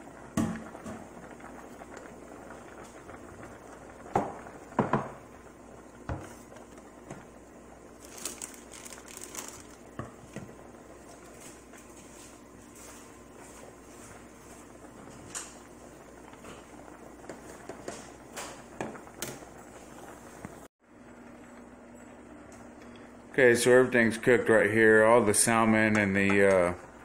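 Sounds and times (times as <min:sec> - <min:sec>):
pot boiling and bubbling: 0:00.0 - 0:27.0.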